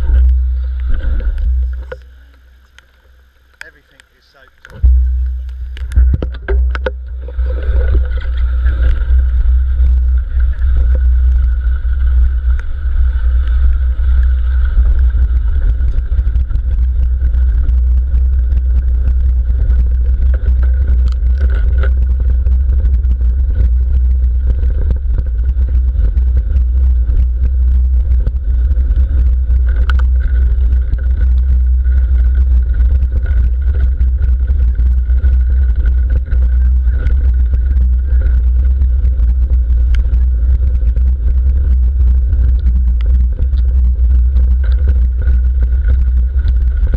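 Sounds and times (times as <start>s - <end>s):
bike rattling and clicking: 0.0s - 46.9s
bike tyres on gravel: 0.0s - 46.9s
wind rumble on camera: 0.0s - 46.9s.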